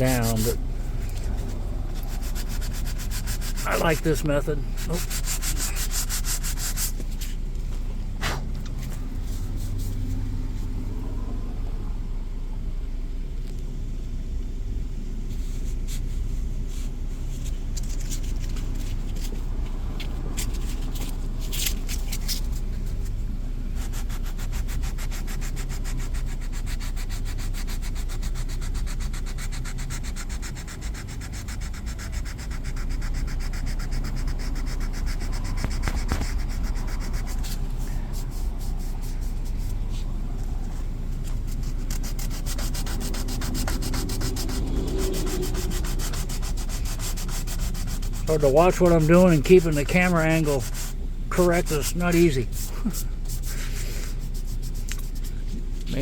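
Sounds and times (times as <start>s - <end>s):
sandpaper rubbing on vinyl: 0.0s - 7.4s, 8.2s - 10.2s, 15.4s - 40.1s, 41.1s - 56.0s.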